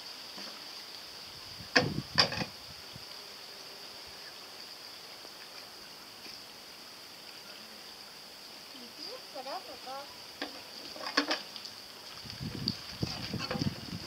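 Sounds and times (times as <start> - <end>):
faint high-pitched hiss: 0.0 - 14.0.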